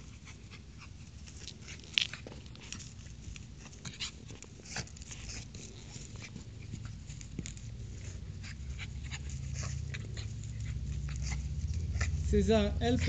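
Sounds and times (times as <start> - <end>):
dogs tussling on grass: 0.0 - 13.0.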